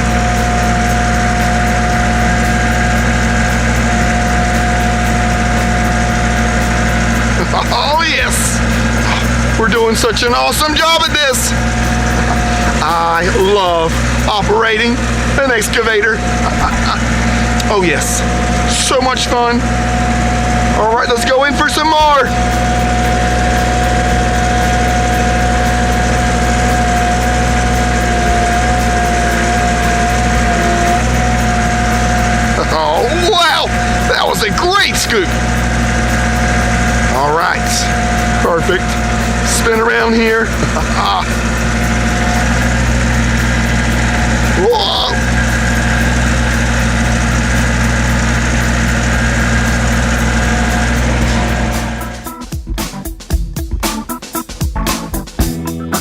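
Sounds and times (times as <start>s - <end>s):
excavator engine hum: 0.0s - 52.4s
constant high whine: 0.0s - 52.6s.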